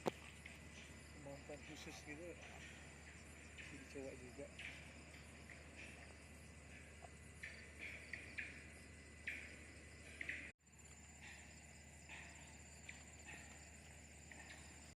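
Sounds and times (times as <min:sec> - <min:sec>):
insects chirping: 0:00.0 - 0:14.9.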